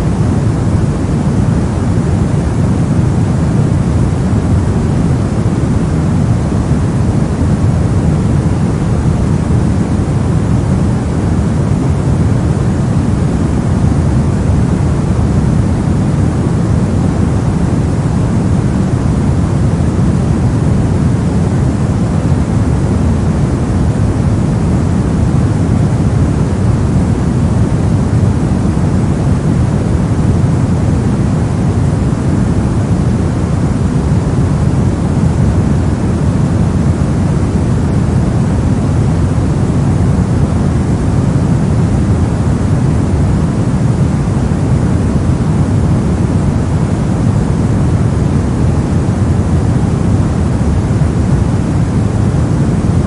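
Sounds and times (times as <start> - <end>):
low synthetic brown noise: 0.0 - 53.0.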